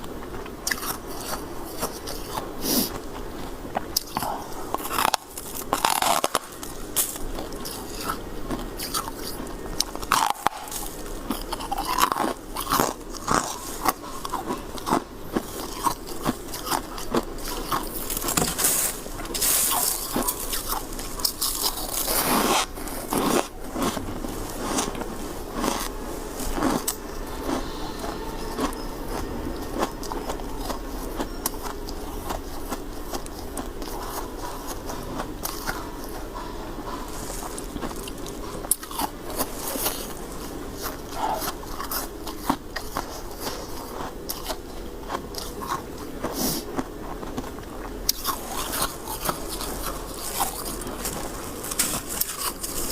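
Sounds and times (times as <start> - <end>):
person chewing crunchy ice: 0.0 - 52.9.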